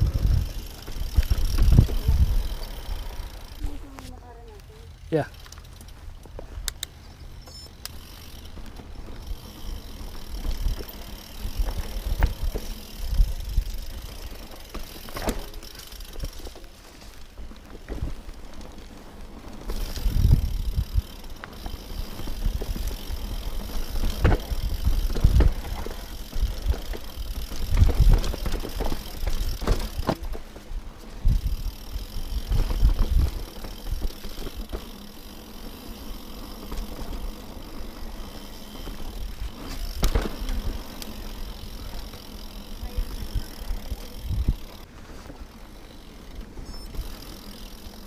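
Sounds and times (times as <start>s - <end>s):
bike rattling and thudding: 0.0s - 6.8s, 7.5s - 48.0s
bike tyres on dirt and stones: 0.0s - 48.0s.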